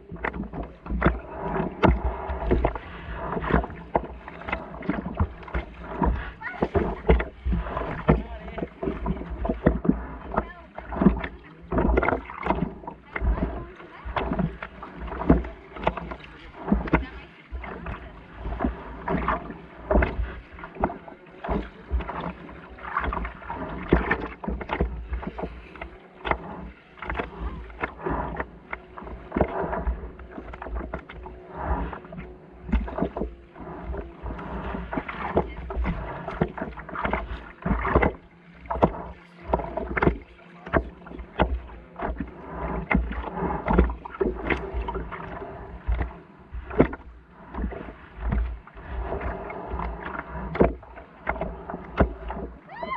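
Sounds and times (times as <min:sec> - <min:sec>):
low rumble: 0:00.0 - 0:52.9
waves lapping against board: 0:00.0 - 0:52.9.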